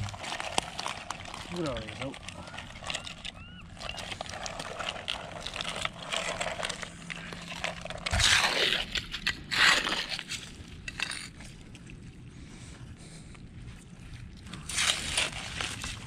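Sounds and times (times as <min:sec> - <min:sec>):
trowel digging shelly mud: 0:00.0 - 0:11.5, 0:14.5 - 0:16.0.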